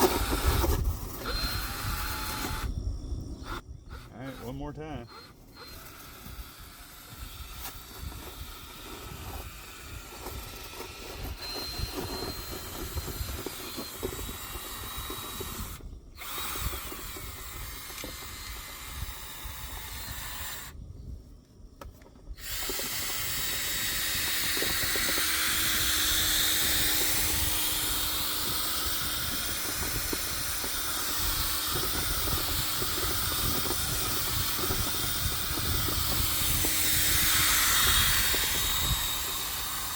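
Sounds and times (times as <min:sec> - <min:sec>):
drill spinning vent cleaning rods: 0:00.0 - 0:02.8, 0:03.4 - 0:20.8, 0:22.4 - 0:39.9.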